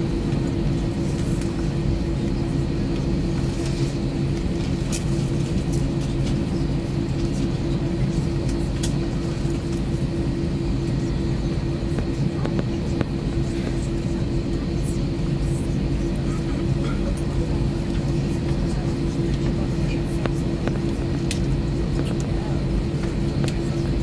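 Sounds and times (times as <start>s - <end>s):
constant hum: 0.0s - 24.0s
jet engine and cabin air rumble: 0.0s - 24.0s.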